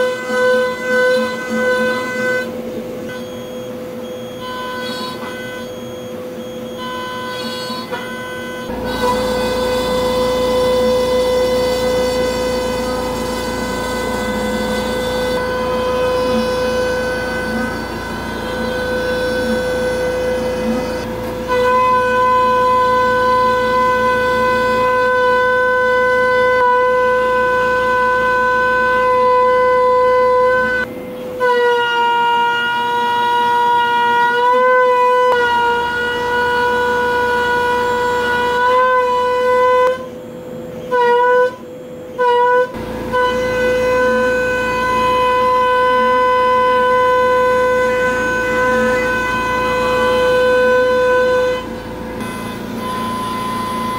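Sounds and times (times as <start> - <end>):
milling spindle high-pitched whine: 0.0 - 40.9, 42.8 - 53.9.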